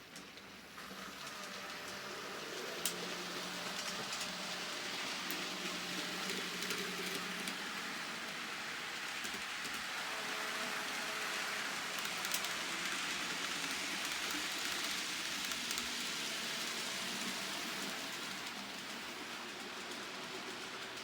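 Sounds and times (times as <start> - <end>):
model train wheels hissing on rails: 0.0 - 21.0.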